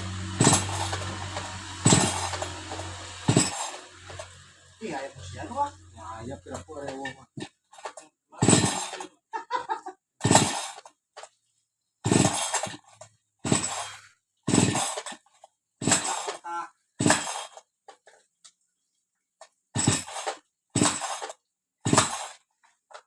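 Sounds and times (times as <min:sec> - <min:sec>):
chainsaw starter cord pulls: 0:00.0 - 0:05.8, 0:06.4 - 0:09.2, 0:10.2 - 0:11.4, 0:12.0 - 0:18.2, 0:19.8 - 0:23.0.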